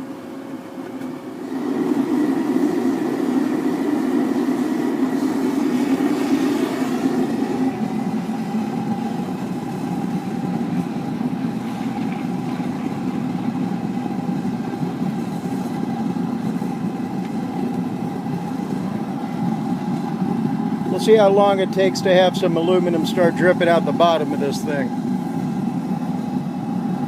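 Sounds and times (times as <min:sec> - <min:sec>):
burner flame and blower rushing: 0:00.0 - 0:27.0
constant hum: 0:00.0 - 0:27.0.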